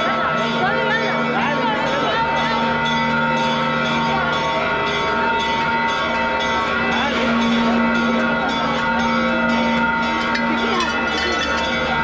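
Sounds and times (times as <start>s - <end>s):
church bells pealing: 0.0s - 12.0s
crowd voices: 0.0s - 12.0s.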